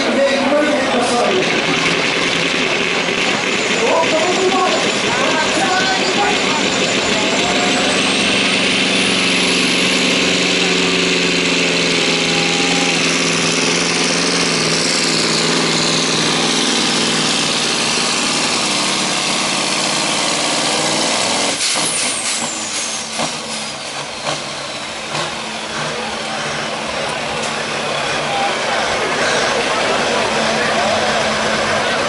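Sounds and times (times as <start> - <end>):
truck diesel engine running hard: 0.0 - 32.0.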